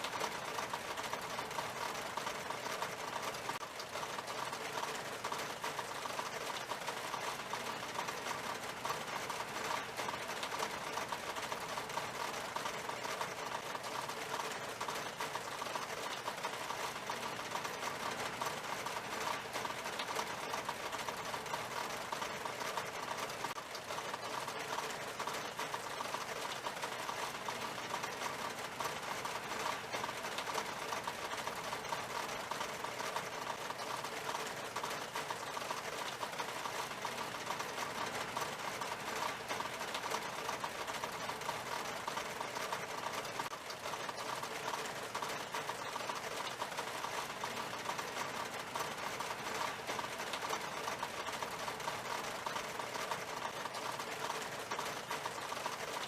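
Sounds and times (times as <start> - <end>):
rain tapping on window glass: 0.0 - 56.0.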